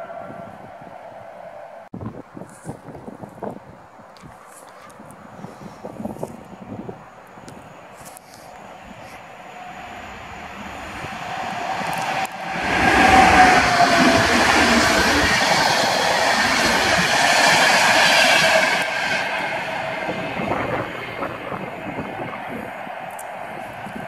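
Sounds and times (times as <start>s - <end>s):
passenger train passing: 0.0s - 1.9s, 5.8s - 24.0s.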